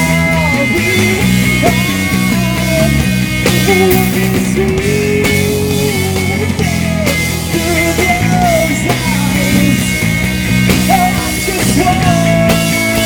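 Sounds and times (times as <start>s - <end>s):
man singing into a microphone: 0.0s - 10.0s, 10.8s - 13.0s
rock band playing: 0.0s - 13.0s.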